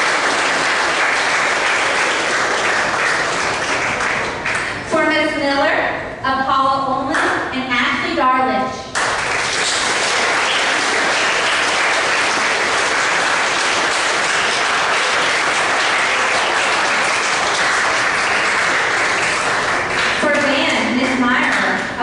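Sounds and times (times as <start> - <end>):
audience applauding: 0.0 - 4.8, 8.9 - 21.8.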